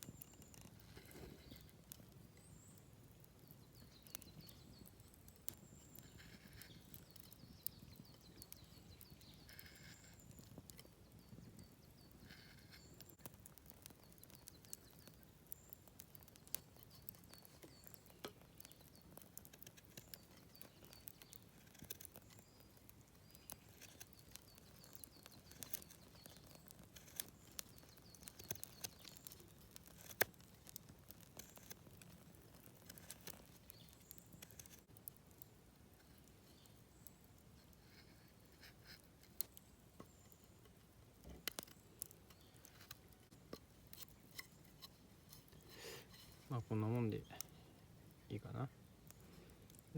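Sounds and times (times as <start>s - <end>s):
knife carving wood: 0.1s - 2.7s, 5.5s - 10.9s, 11.9s - 35.2s, 37.6s - 40.6s, 41.3s - 47.4s.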